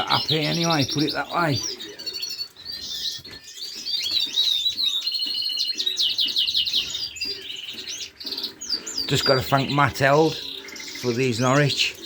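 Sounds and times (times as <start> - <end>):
canaries and finches singing: 0.0 - 12.0
fast bird trill: 0.0 - 12.0.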